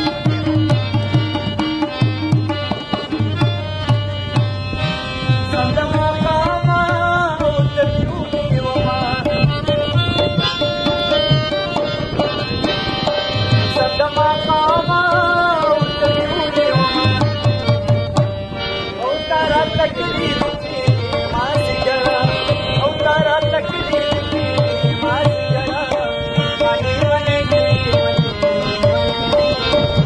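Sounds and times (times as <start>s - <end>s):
harmonium melody: 0.0s - 30.0s
tabla rhythm: 0.0s - 30.0s.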